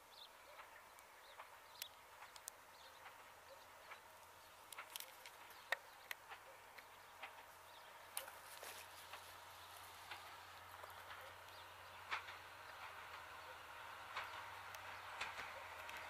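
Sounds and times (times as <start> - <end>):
distant diesel locomotive drone: 0.0 - 16.0.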